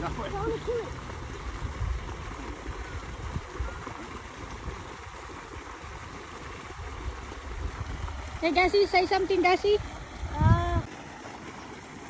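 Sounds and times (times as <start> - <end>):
water pouring from a pipe: 0.0 - 12.0.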